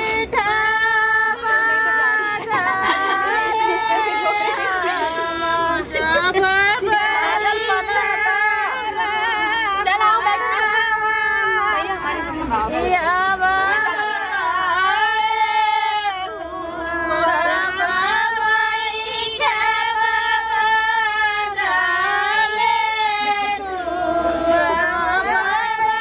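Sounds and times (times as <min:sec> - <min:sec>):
woman singing: 0:00.0 - 0:26.0.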